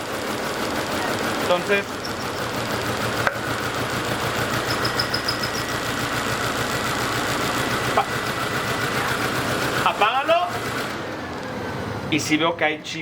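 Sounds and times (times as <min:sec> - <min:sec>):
car engine idling roughly: 0:00.0 - 0:11.5.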